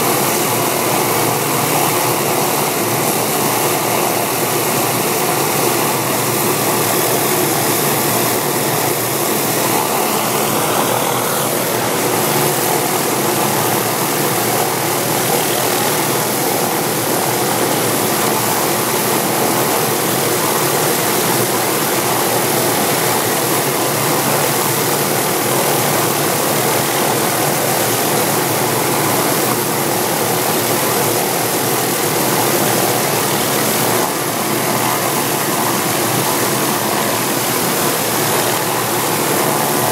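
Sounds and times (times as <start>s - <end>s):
helicopter turbine rushing: 0.0s - 39.9s
high turbine whine: 0.0s - 39.9s.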